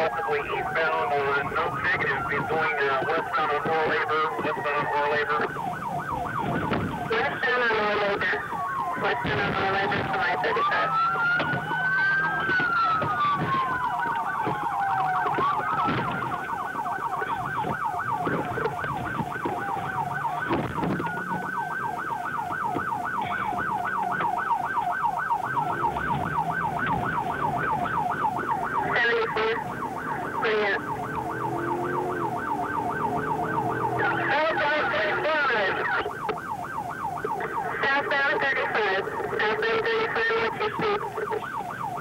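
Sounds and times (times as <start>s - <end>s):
police siren wailing and yelping: 0.0s - 42.0s.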